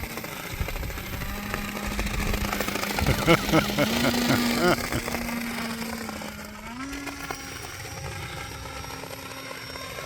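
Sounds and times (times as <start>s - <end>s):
electric motor and propeller hum: 0.0s - 10.0s.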